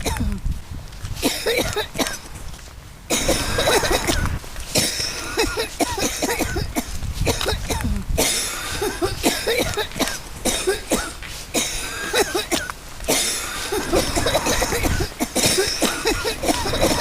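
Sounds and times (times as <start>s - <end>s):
person coughing: 1.2s - 2.2s, 3.1s - 17.0s.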